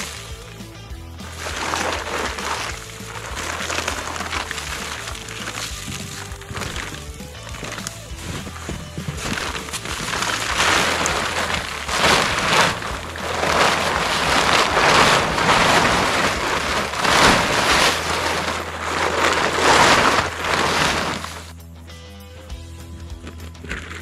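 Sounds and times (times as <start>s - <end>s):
plastic tarp crinkling: 0.0s - 21.6s, 23.1s - 24.0s.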